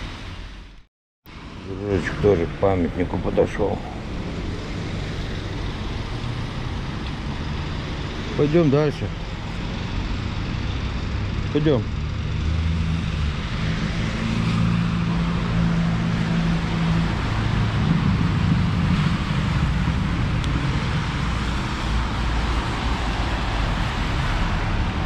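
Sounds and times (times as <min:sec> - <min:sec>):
car engines humming: 0:00.0 - 0:25.0.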